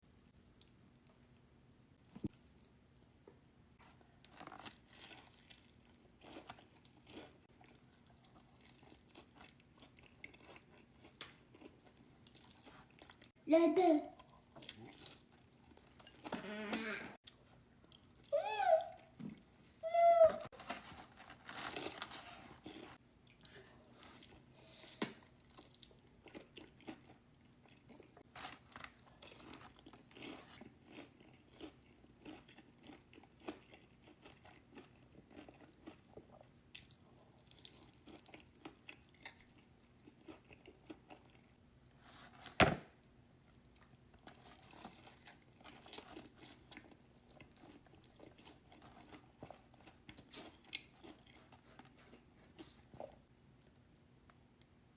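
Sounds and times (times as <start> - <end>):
chewing and crunching food: 0.1 - 13.4, 14.2 - 42.5, 43.1 - 54.9.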